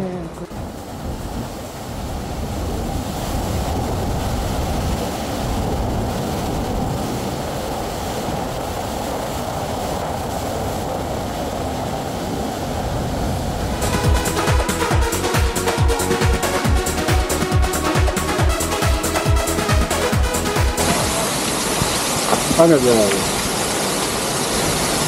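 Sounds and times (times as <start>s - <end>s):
wind rumble on microphone: 0.0s - 15.9s, 20.8s - 25.0s
waterfall roaring: 0.0s - 25.0s.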